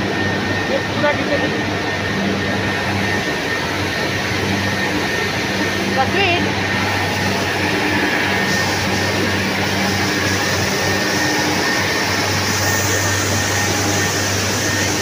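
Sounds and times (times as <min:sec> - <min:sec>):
constant low hum: 0:00.0 - 0:15.0
faint high whine: 0:00.0 - 0:15.0.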